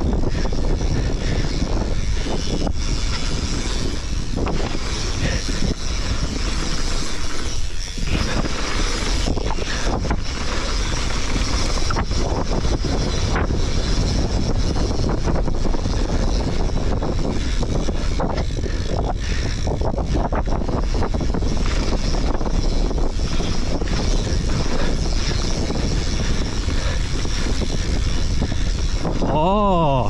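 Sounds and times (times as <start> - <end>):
bike rattling over bumps: 0.0 - 30.0
bike tyres rolling on dirt: 0.0 - 30.0
wind noise on microphone: 0.0 - 30.0.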